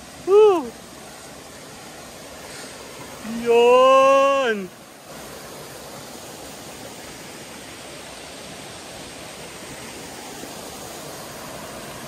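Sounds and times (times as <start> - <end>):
stream water over rocks: 0.0 - 12.0.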